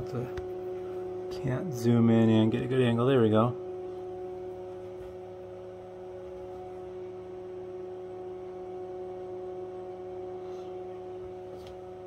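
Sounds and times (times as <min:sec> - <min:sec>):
oscilloscope electrical hum: 0:00.0 - 0:12.0.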